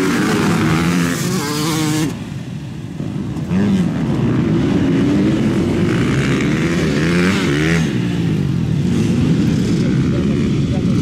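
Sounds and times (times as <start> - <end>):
racing engines revving: 0.0 - 2.3, 3.4 - 11.0.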